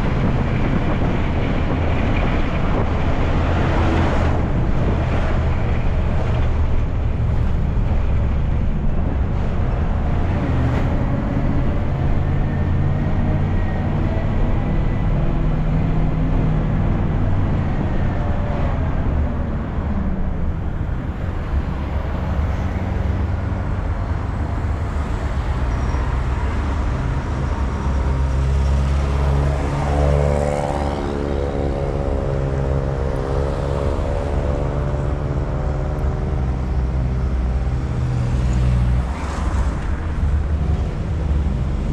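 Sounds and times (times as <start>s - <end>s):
minibus engine droning: 0.0s - 41.9s
road and traffic noise: 0.0s - 41.9s.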